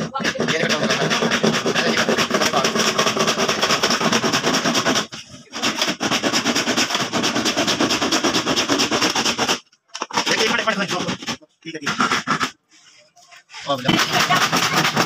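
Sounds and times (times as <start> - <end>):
handsaw rasping through plastic: 0.0 - 12.9, 13.6 - 15.0.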